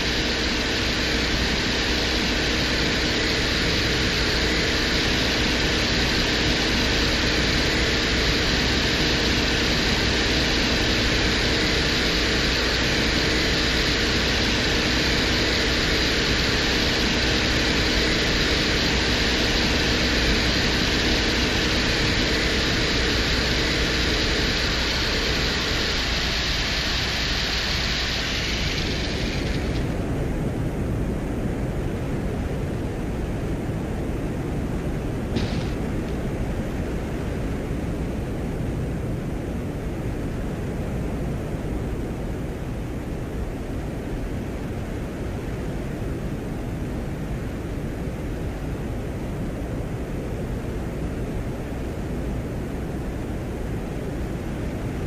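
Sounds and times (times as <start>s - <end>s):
static-like hiss: 0.0s - 55.0s.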